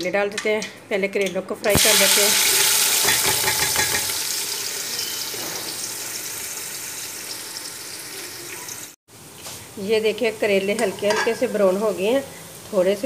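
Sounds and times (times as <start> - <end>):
vegetables sizzling in hot oil: 1.7 - 13.0.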